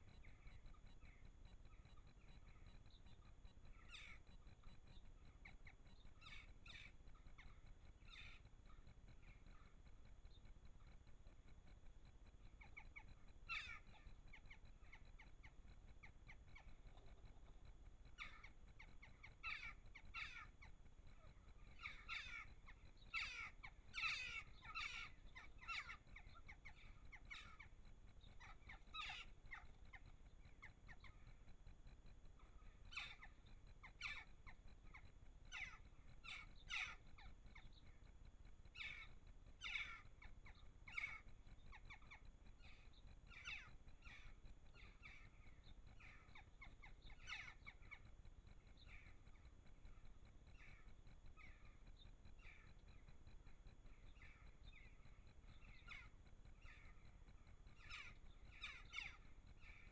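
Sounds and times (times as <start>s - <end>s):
jackdaws calling: 0.0s - 59.9s.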